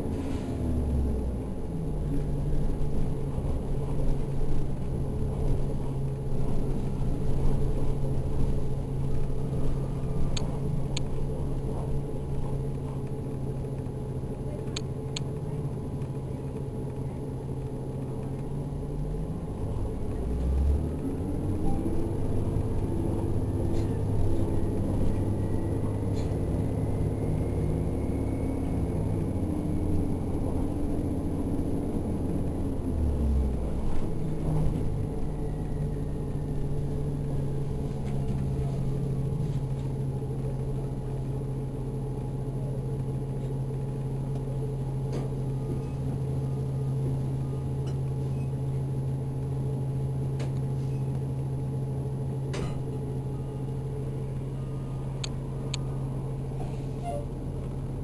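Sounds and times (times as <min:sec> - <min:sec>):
bus drivetrain hum: 0:00.0 - 0:58.0.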